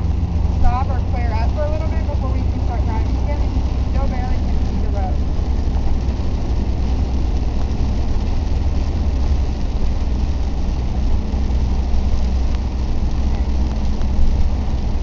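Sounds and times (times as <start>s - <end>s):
engine and tyre rumble: 0.0s - 15.0s
rain hissing on car: 0.0s - 15.0s.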